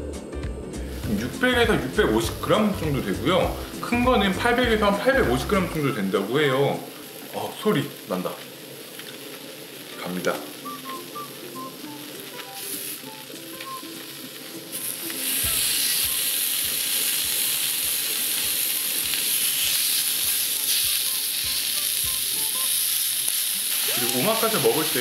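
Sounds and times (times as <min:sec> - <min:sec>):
meat sizzling on a griddle: 0:00.8 - 0:25.0.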